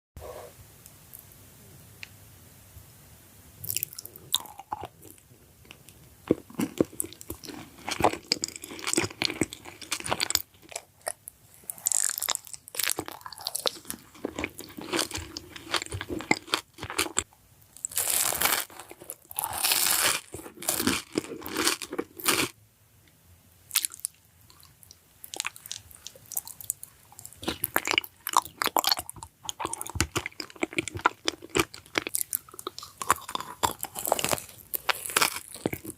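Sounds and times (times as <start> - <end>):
person chewing crunchy food: 3.7 - 22.5, 23.7 - 35.9.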